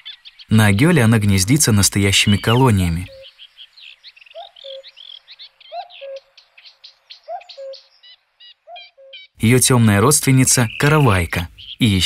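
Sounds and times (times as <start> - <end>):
birds singing high notes: 0.0 - 12.0.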